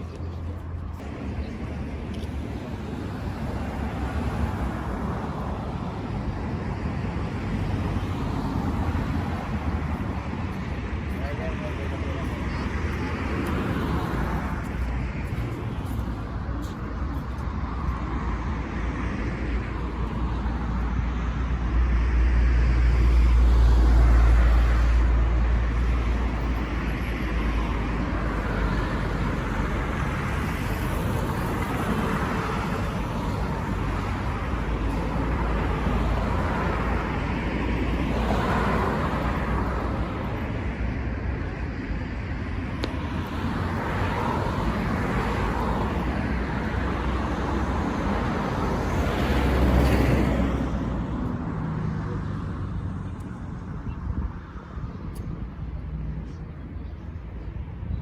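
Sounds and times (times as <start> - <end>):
traffic noise: 0.0 - 58.0.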